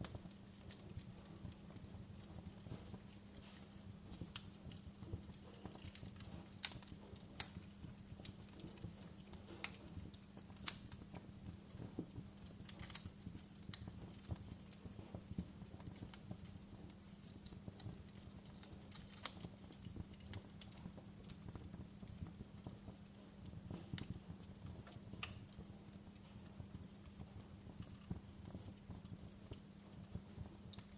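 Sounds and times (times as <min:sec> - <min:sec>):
steady low hum: 0:00.0 - 0:30.9
wood fire crackling: 0:00.0 - 0:30.9.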